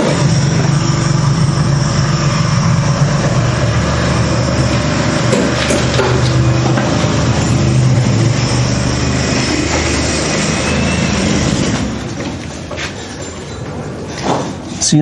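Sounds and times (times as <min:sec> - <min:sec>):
engine running with rattly hum: 0:00.0 - 0:14.8.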